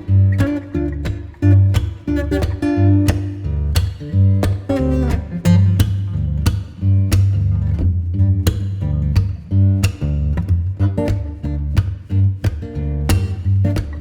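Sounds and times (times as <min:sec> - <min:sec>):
plucked guitar notes: 0:00.0 - 0:14.0
sustained bass line: 0:00.0 - 0:14.0.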